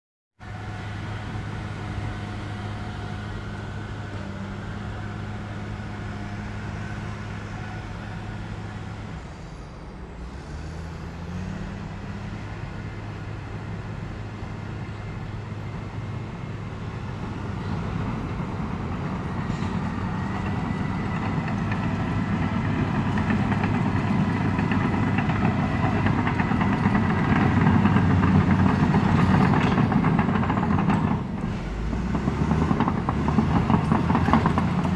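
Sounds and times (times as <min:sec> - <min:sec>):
bulldozer diesel engine running: 0:00.4 - 0:34.9.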